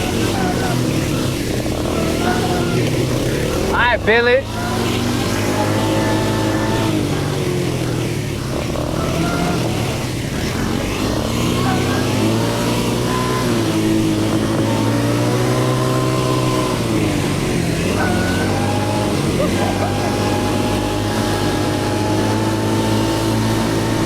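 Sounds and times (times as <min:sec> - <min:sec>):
atv engine revving: 0:00.0 - 0:24.0.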